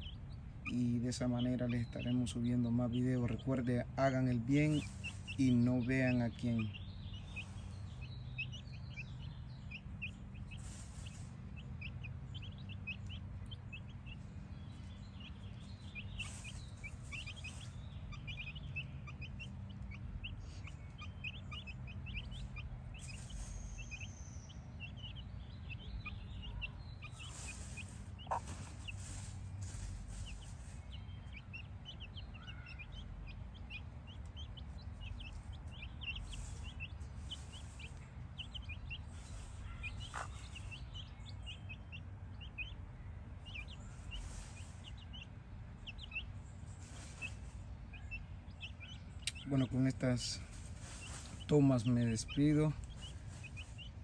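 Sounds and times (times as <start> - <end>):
chicks peeping: 0.0 - 54.0
low steady rumble: 0.0 - 54.0.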